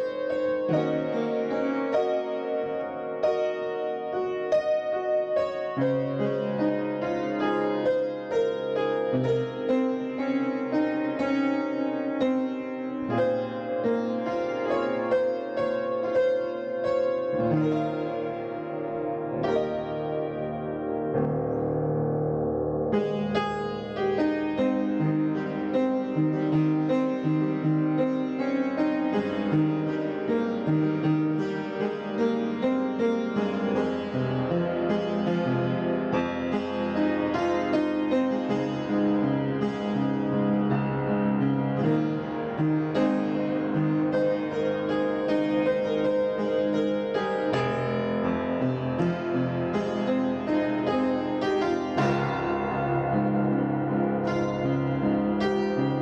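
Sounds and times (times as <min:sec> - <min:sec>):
instrumental keyboard music: 0:00.0 - 0:56.0.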